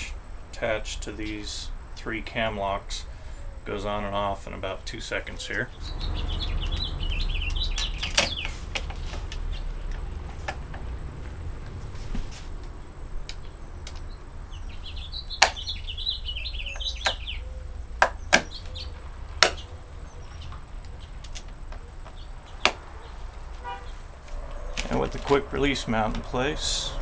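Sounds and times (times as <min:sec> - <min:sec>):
bird chirping: 0:00.0 - 0:27.0.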